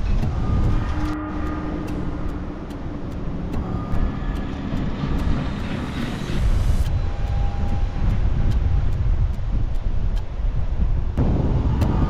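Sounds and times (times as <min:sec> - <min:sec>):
motor vehicle engine rumble: 0:00.0 - 0:12.0
steady hum: 0:00.0 - 0:12.0.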